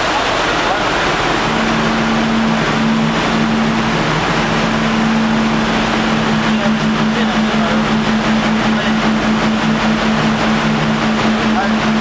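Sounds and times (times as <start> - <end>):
engine room machinery hum: 0.0 - 12.0
lower machinery hum: 0.0 - 12.0.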